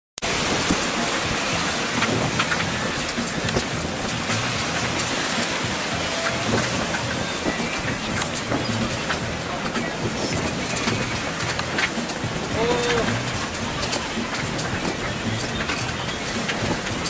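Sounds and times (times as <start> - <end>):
lake water splashing: 0.2 - 17.0
wind buffeting microphone: 0.2 - 17.0.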